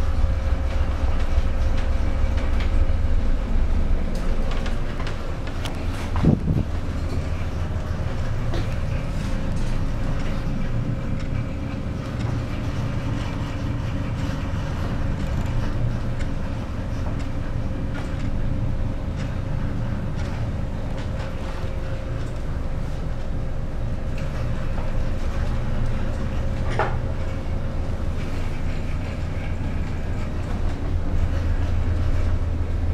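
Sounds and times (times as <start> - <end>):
ship engine drone: 0.0 - 32.9
thin constant hum: 0.0 - 32.9.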